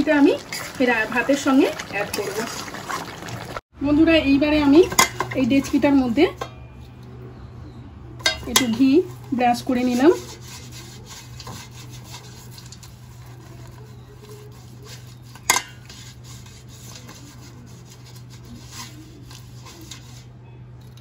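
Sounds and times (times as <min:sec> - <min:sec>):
brush scraping inside metal pot: 0:00.0 - 0:03.6, 0:04.7 - 0:06.6, 0:08.2 - 0:20.4.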